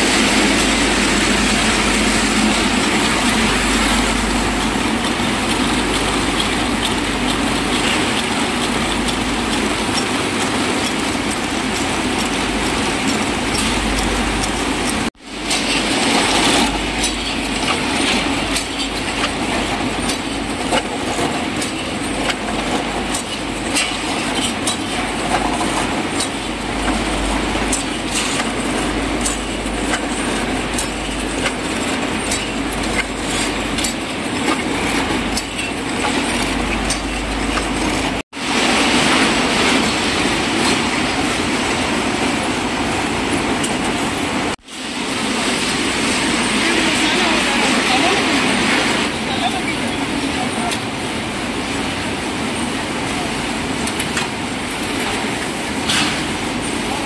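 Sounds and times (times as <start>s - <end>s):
factory machines clattering: 0.0s - 57.0s.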